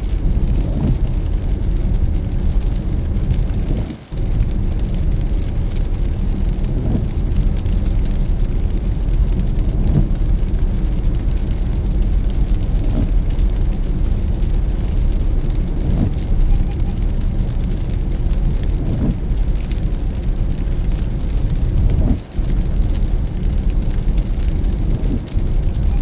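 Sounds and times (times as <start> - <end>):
car engine and tyres on wet road: 0.0 - 26.0
raindrop ticks: 0.0 - 26.0.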